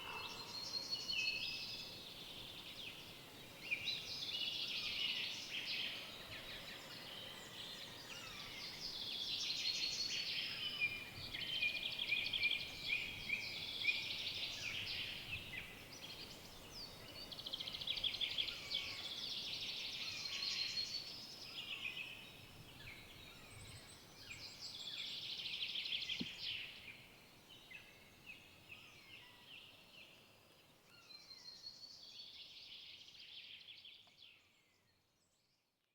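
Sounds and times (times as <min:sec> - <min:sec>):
faint forest background: 0:00.0 - 0:35.9.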